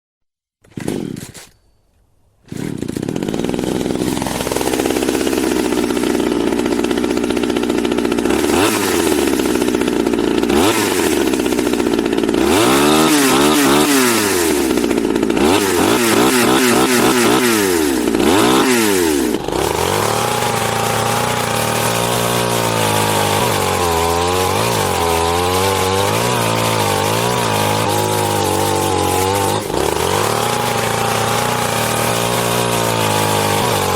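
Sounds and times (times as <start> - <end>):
chainsaw revving: 0.6 - 1.5, 2.4 - 33.9.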